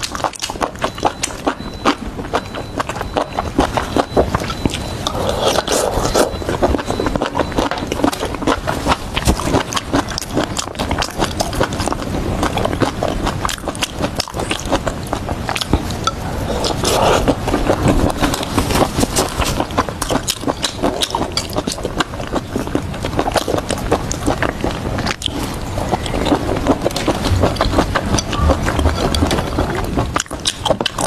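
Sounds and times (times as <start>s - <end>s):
person chewing and crunching vegetables: 0.0s - 31.0s.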